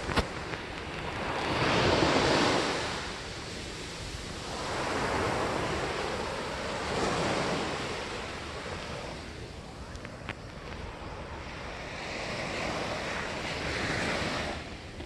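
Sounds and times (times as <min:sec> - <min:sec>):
sea waves washing onto shore: 0:00.0 - 0:15.0
wind buffeting microphone: 0:00.0 - 0:15.0.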